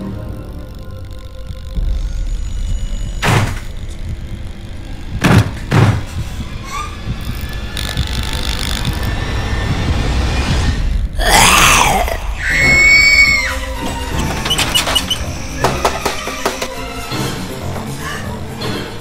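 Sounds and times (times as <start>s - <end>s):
low rumbling drone: 0.0s - 18.5s.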